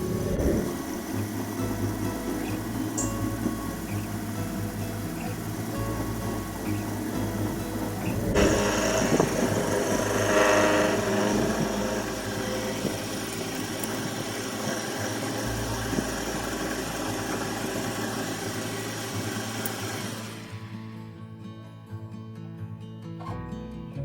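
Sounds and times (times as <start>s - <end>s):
mini lathe motor humming: 0.0s - 20.9s.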